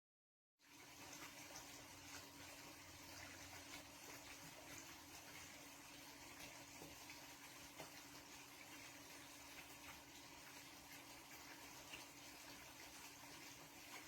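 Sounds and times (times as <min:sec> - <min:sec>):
water pouring into a pool: 0:00.6 - 0:14.0.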